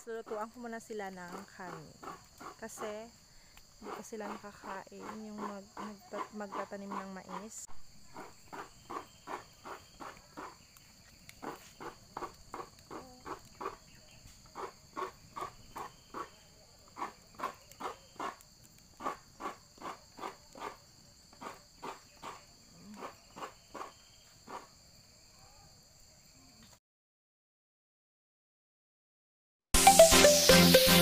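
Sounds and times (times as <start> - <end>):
insects trilling: 0.0 - 26.8.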